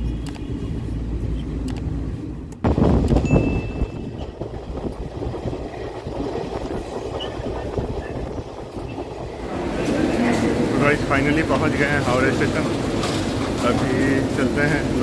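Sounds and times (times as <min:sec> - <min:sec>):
train coach rumbling: 0:00.0 - 0:15.0.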